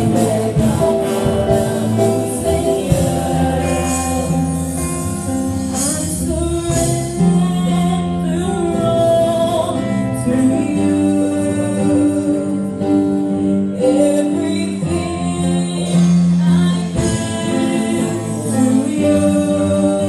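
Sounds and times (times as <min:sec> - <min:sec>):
drums: 0:00.0 - 0:20.0
electric guitar: 0:00.0 - 0:20.0
group of singers: 0:00.0 - 0:20.0
keyboard: 0:00.0 - 0:20.0
woman singing lead: 0:00.0 - 0:20.0.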